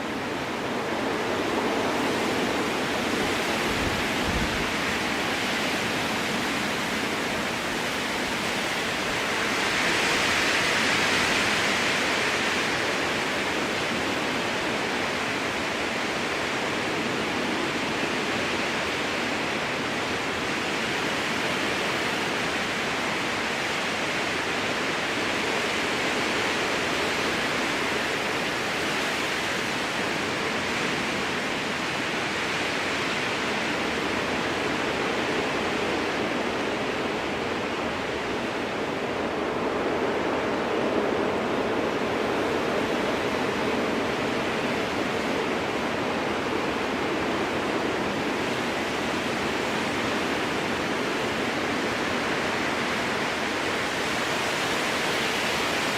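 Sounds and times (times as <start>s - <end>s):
strong wind through forest: 0.0s - 55.9s.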